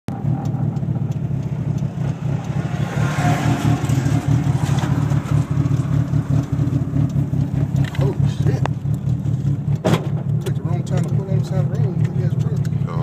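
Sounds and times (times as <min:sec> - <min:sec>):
car engine running: 0:00.1 - 0:13.0.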